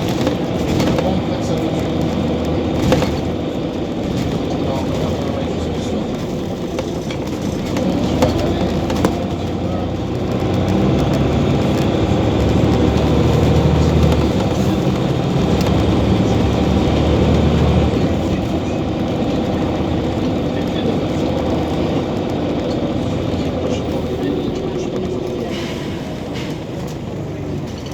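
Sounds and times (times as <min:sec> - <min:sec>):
bus diesel engine running: 0:00.0 - 0:27.9.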